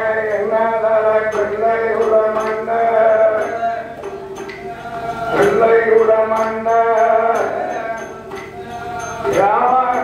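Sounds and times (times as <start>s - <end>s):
man chanting: 0.0s - 4.1s, 4.7s - 10.0s
percussion strokes: 0.0s - 10.0s
sustained accompanying tones: 0.0s - 10.0s.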